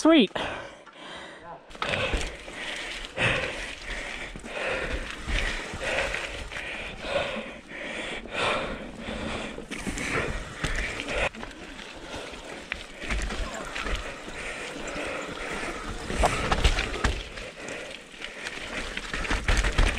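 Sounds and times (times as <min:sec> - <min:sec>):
rider breathing hard: 0:00.4 - 0:19.9
bike tyre and frame rattle: 0:01.7 - 0:19.9.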